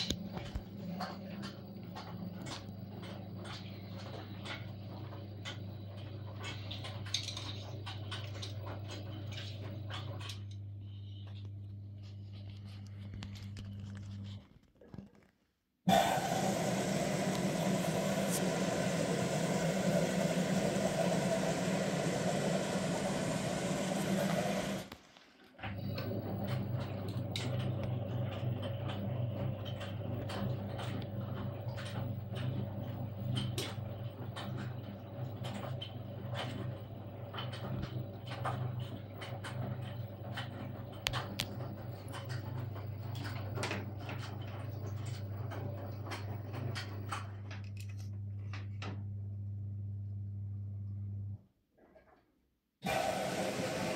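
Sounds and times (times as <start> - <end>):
washing machine hum: 0.0 - 52.2, 52.8 - 53.9.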